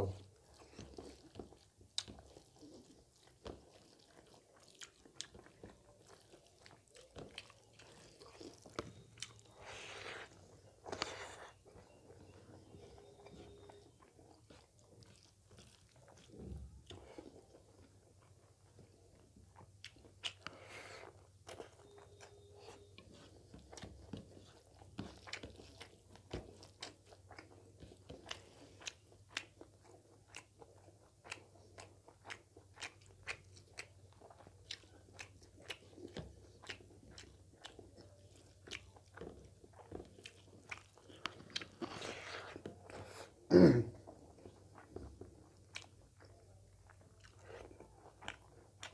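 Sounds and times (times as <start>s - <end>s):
man chewing food: 0.0s - 48.9s.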